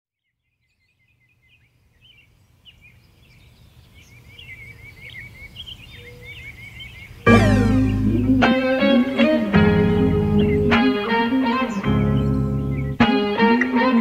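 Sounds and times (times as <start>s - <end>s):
birds chirping and trilling: 0.2s - 14.0s.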